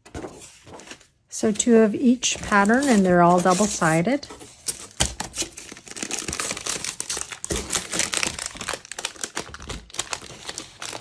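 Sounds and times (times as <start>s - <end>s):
paper sheets rustling: 0.0s - 11.0s
plastic sleeve crinkling: 2.2s - 11.0s.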